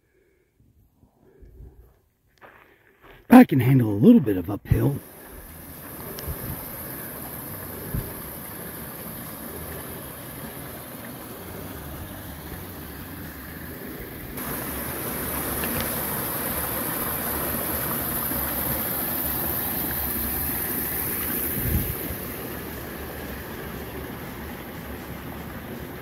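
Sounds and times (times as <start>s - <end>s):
creek trickling and splashing: 5.0s - 26.0s.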